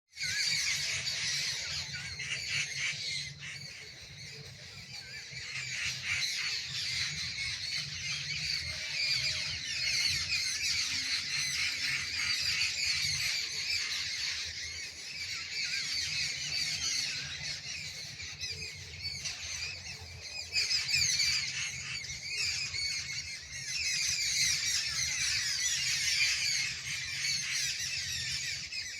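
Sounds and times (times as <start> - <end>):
birds chattering: 0.2 - 28.9.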